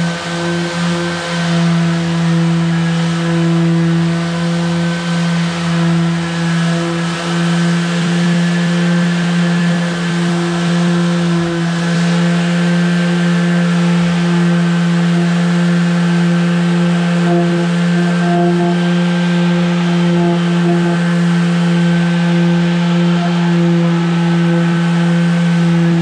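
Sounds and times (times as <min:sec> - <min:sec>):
palm sander motor hum: 0:00.0 - 0:26.0.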